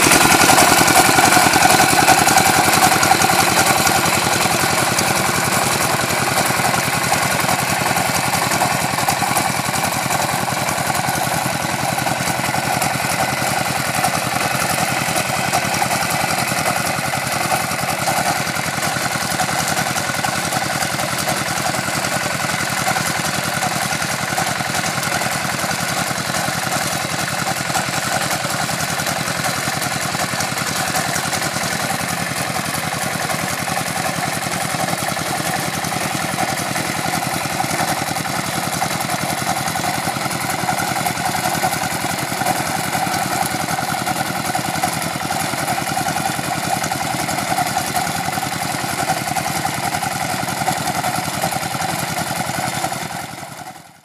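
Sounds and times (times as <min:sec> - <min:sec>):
vibratory roller engine running: 0:00.0 - 0:54.0.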